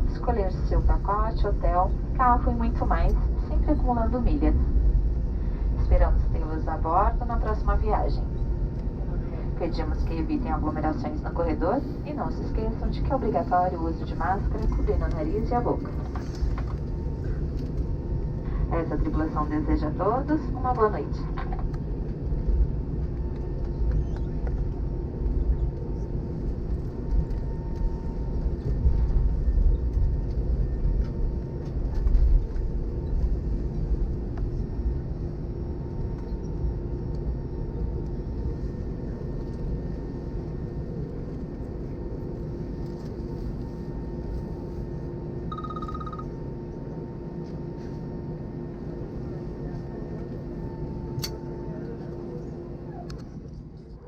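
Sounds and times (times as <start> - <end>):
airplane cabin rumble and hum: 0.0 - 54.0.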